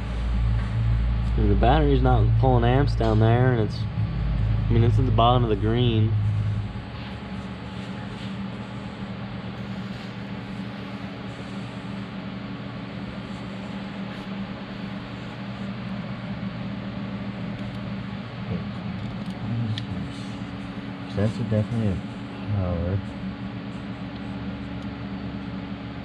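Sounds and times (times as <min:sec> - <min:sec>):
machine hum with whirring hiss: 0:00.0 - 0:26.0.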